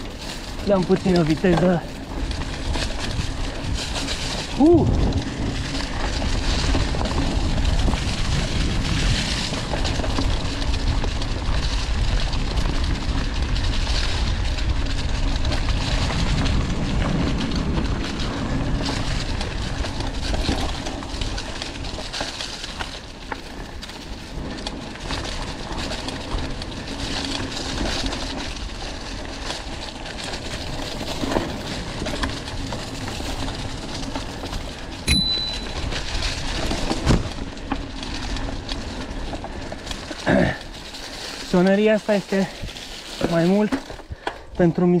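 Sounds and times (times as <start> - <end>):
bike rattling: 0.0 - 45.0
bike tyres rumbling on dirt: 0.0 - 45.0.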